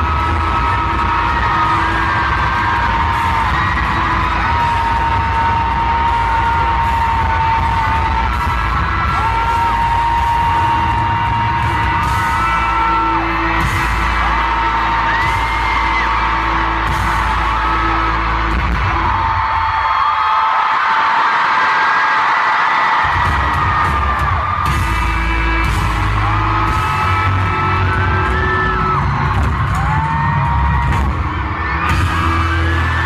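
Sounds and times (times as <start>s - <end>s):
heavy bass: 0.0s - 19.6s, 23.1s - 33.0s
amplified rock band playing: 0.0s - 20.0s, 23.1s - 33.0s
crowd yelling: 0.0s - 33.0s.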